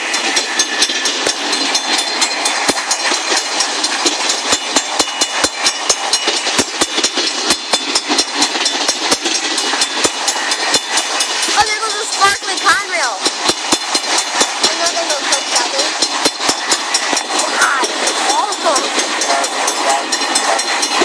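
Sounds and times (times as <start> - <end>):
rumble of rolling train cars: 0.0 - 21.0
train wheels clacking over rail joints: 0.0 - 21.0.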